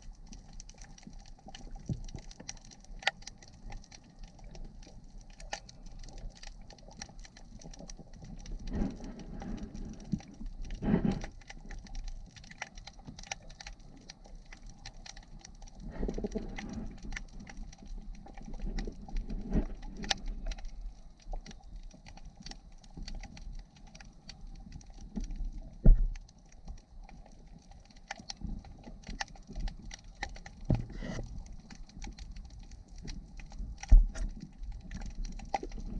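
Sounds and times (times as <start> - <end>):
underwater crackling clicks: 0.0 - 35.9.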